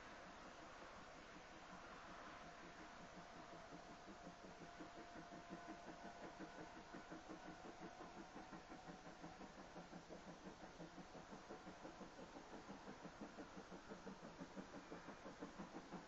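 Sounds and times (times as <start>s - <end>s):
distant steam locomotive chuffing: 0.0s - 16.0s.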